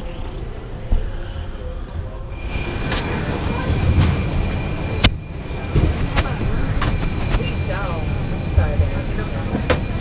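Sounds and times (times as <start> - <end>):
airliner low rumble: 0.0 - 10.0
high whine: 0.0 - 10.0.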